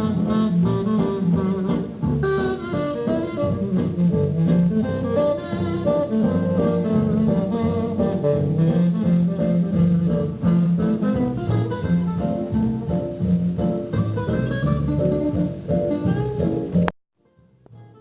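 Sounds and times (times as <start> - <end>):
guitar music through speakers: 0.0 - 18.0.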